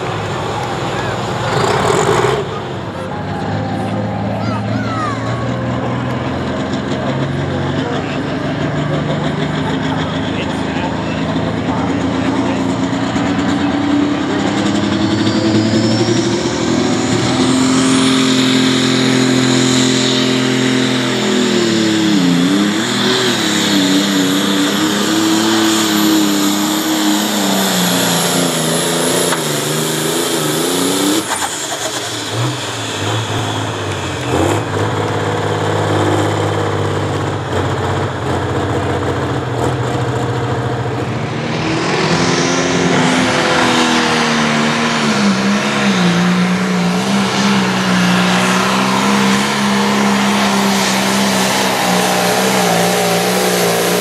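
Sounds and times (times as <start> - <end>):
diesel tractor engines at full throttle: 0.0 - 54.0.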